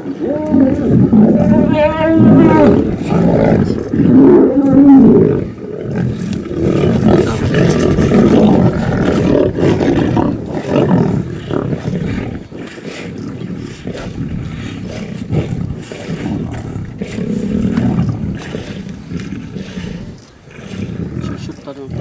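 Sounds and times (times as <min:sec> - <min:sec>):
lions growling and snarling: 0:00.0 - 0:22.0.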